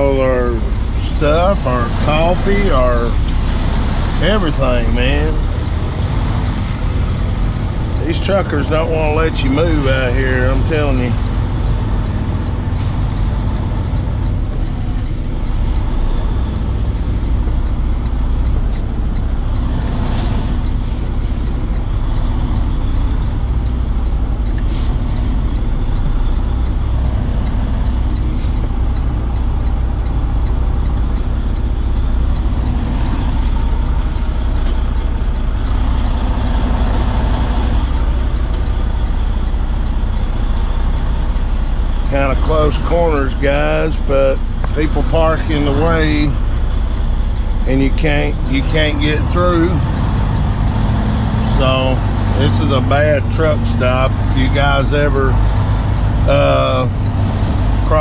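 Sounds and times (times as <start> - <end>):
diesel truck engine rumbling: 0.0 - 58.0.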